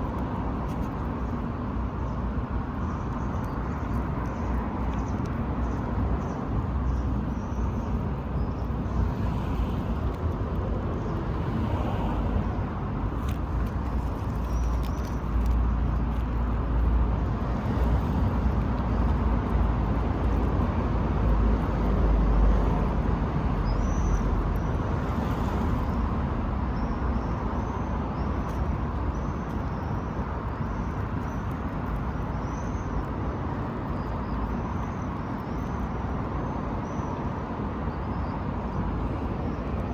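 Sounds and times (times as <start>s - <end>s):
road traffic noise: 0.0s - 39.9s
small birds chirping: 0.1s - 11.4s, 13.3s - 16.7s, 17.8s - 24.8s, 26.7s - 39.9s.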